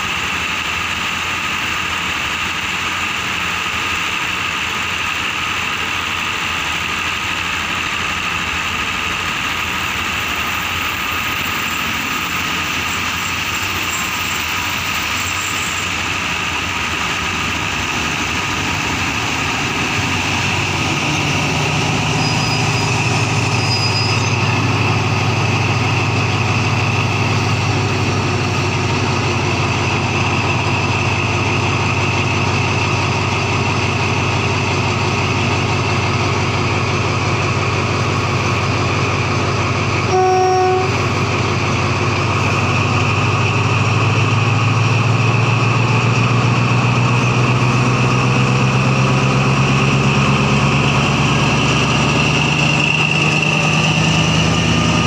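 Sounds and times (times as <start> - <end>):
engine noise: 0.0 - 55.0
locomotive low hum: 0.0 - 55.0.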